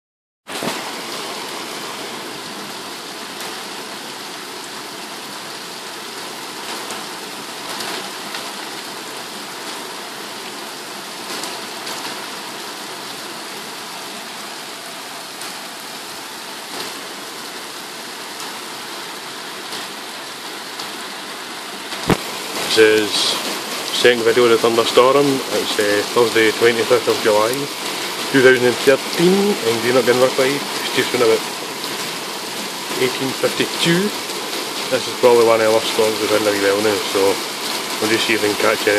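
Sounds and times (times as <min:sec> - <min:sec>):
heavy rain hissing: 0:00.5 - 0:38.9.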